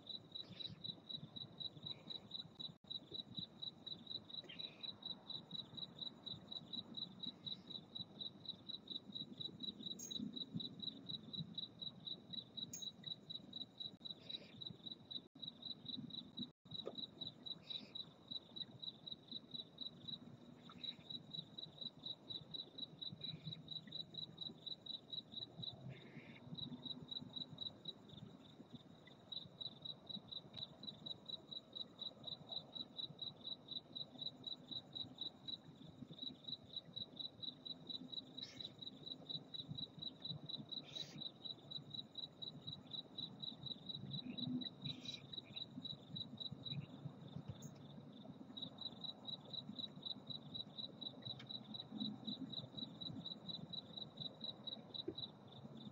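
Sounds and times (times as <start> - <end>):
cricket chirping: 0.0 - 55.9.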